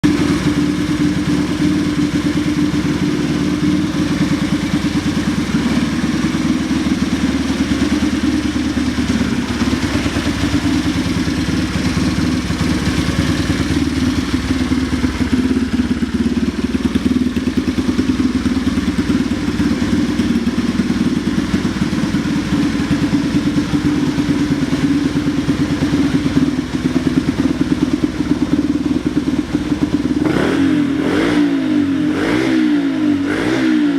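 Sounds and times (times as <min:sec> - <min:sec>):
motorcycle engine idling: 0:00.0 - 0:33.4.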